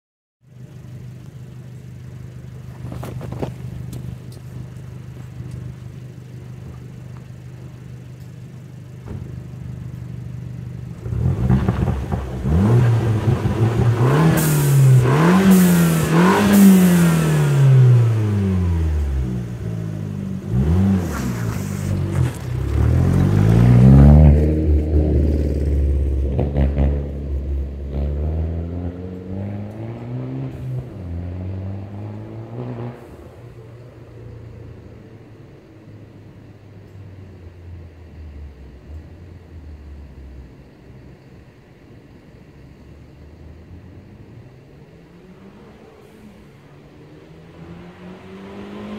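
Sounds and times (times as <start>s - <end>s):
car engine revving: 2.1s - 36.0s, 43.5s - 48.9s.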